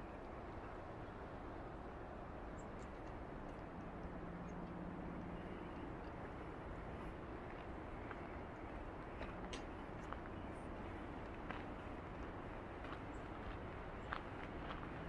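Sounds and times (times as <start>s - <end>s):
wind through pine trees: 0.0s - 15.0s.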